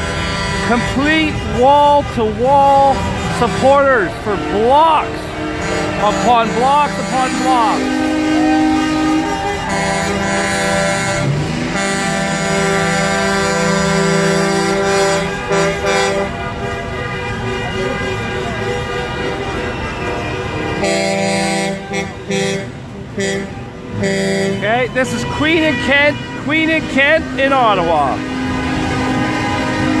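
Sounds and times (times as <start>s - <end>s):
truck air horns blasting: 0.0s - 30.0s.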